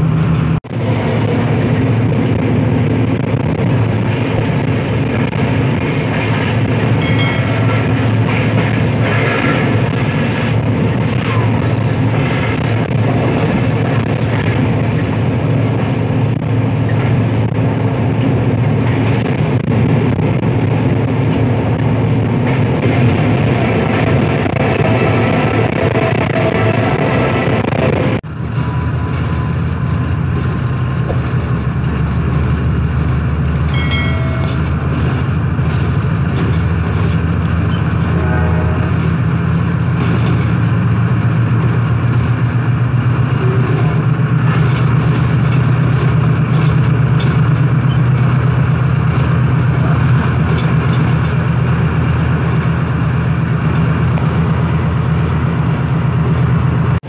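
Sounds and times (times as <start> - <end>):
diesel engine drone: 0.0 - 57.0
rail noise: 0.0 - 57.0.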